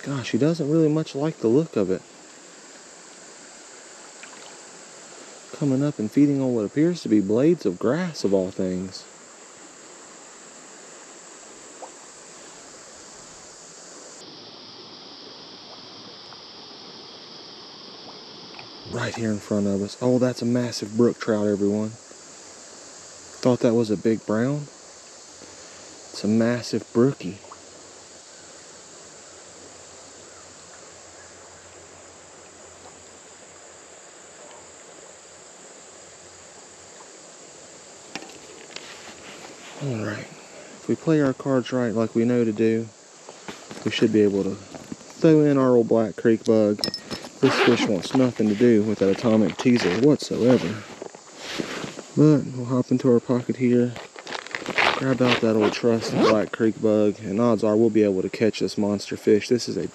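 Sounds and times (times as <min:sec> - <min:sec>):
creek water flowing: 0:00.0 - 0:59.9
insect buzz: 0:00.0 - 0:59.9.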